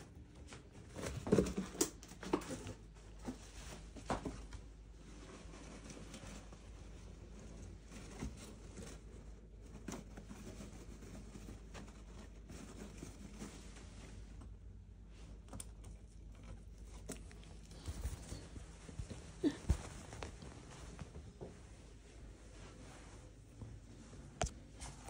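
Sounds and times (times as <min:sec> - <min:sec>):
paper rustling and crinkling: 0:00.5 - 0:21.6.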